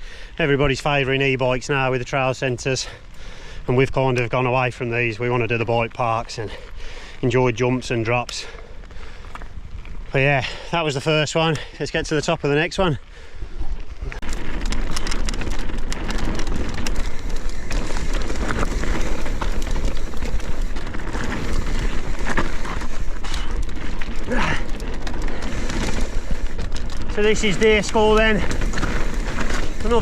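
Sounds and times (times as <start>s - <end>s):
bike rattling: 0.0s - 30.0s
bike tyres crunching on gravel: 0.0s - 30.0s.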